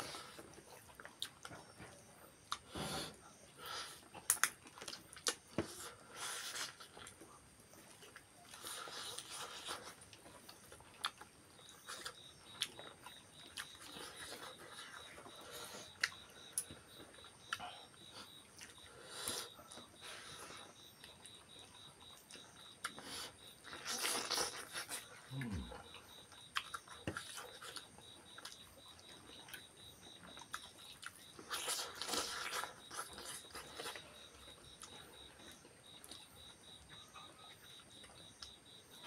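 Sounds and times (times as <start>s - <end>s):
chewing and mouth smacking: 0.2s - 2.6s, 4.0s - 38.6s.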